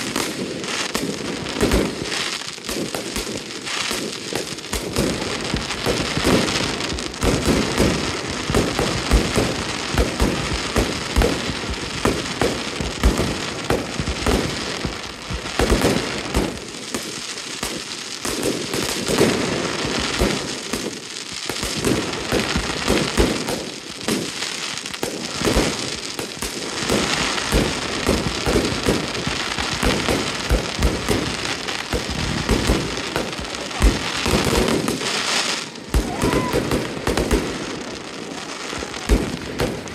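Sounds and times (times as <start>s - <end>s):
crackling fireworks stars: 0.0s - 39.9s.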